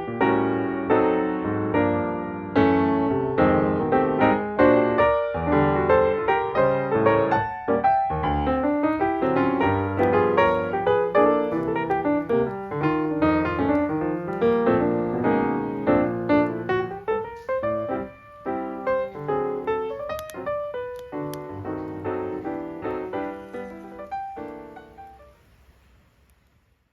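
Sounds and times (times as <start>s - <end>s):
piano music: 0.0s - 25.4s.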